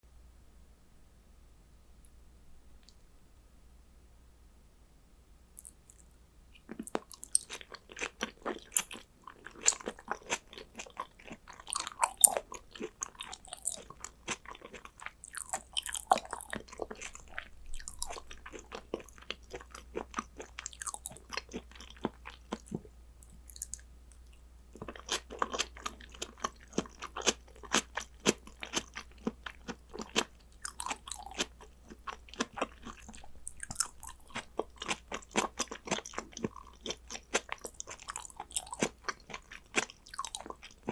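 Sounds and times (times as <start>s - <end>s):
person chewing: 5.6s - 40.9s.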